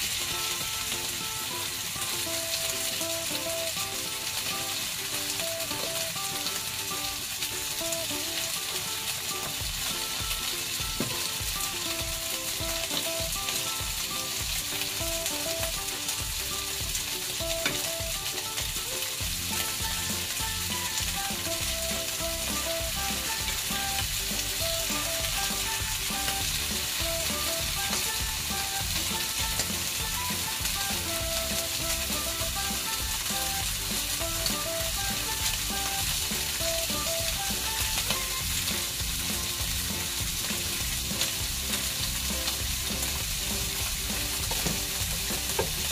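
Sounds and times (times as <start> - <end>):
meat sizzling in oil: 0.0 - 45.9.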